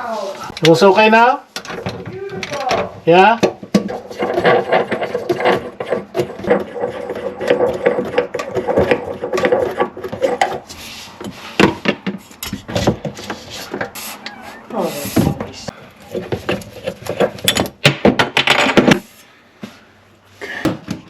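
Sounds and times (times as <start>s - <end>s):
clicks knocks and scraping of tools: 1.6s - 19.0s.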